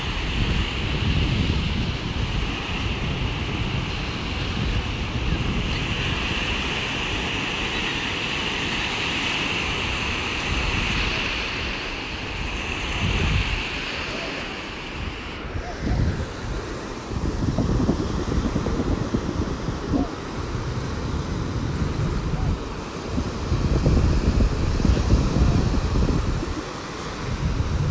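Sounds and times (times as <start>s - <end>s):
waves breaking on a beach: 0.0s - 27.9s
wind buffeting the microphone: 0.0s - 27.9s.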